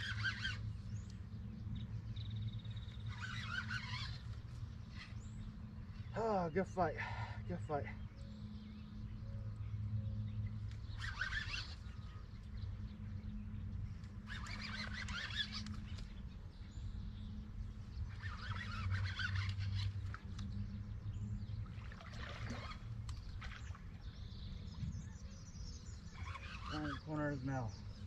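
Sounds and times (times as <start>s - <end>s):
fishing reel whirring: 0.0s - 6.2s, 10.3s - 24.7s, 25.7s - 28.0s
steady low hum: 0.0s - 28.0s.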